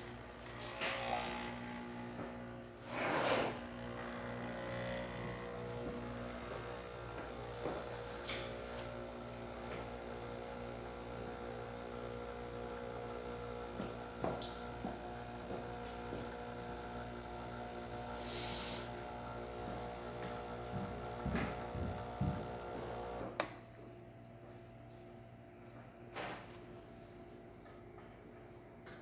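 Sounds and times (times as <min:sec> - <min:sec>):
espresso machine pump humming: 0:00.0 - 0:24.1.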